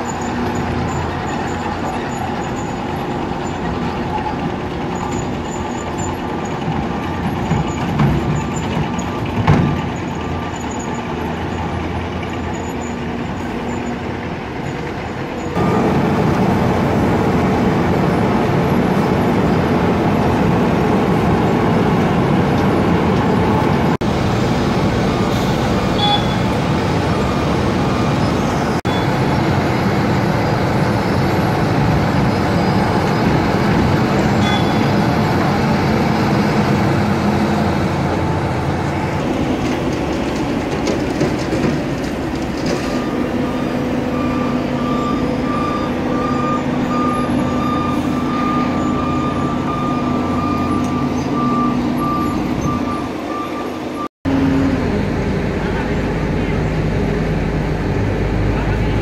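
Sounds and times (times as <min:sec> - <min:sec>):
loader with sweeper running: 0:00.0 - 0:59.0
road milling machine grinding: 0:00.0 - 0:59.0.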